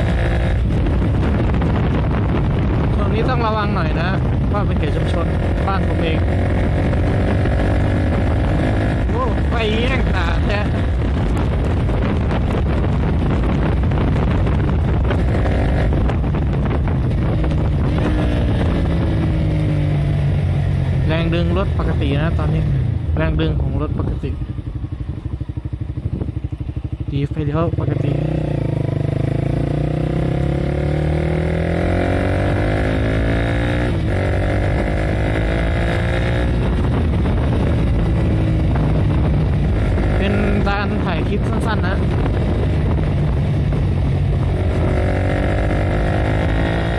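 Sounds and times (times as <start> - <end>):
motorcycle engine: 0.0 - 46.9
wind rushing over microphone: 0.0 - 46.9.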